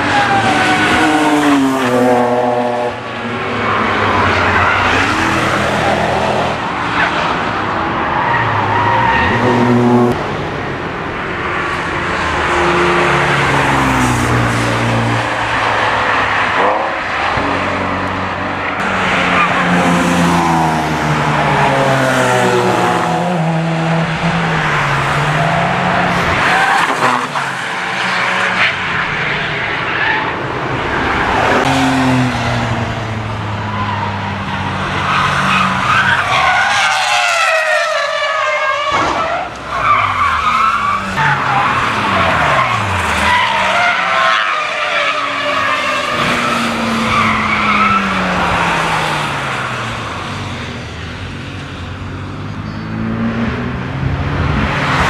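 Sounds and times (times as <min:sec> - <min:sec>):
race car engines revving past: 0:00.0 - 0:55.0.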